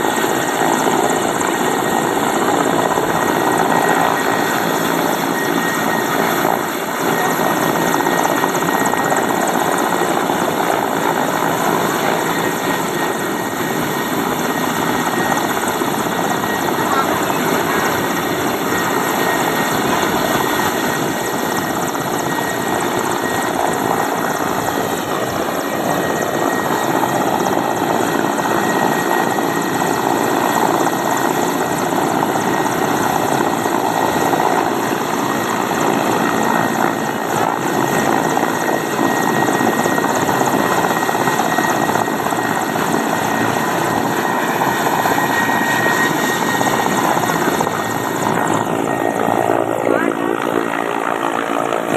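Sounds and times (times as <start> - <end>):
helicopter engine and rotor: 0.0 - 51.9.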